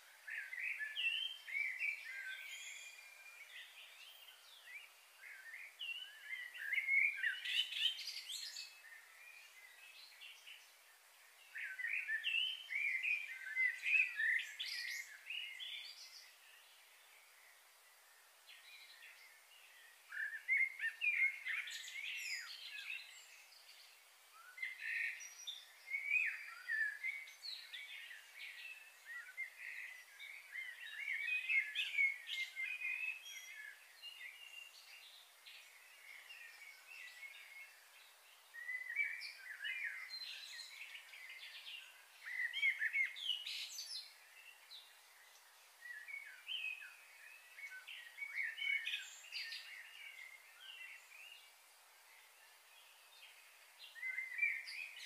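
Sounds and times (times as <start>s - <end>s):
faint steady hiss: 0.0s - 55.0s
small songbirds chirping: 0.0s - 55.0s.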